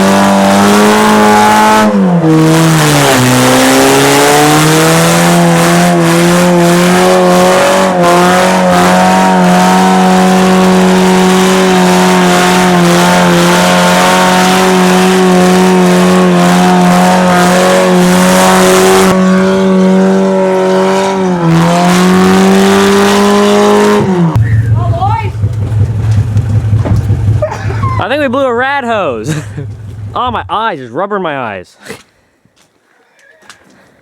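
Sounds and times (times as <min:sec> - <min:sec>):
car engine at high revs: 0:00.0 - 0:30.5.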